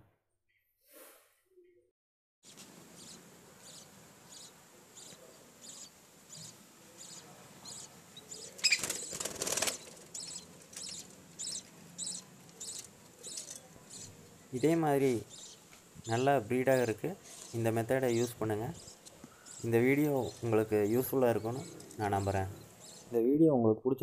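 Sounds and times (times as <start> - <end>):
chicks cheeping: 2.5 - 23.2.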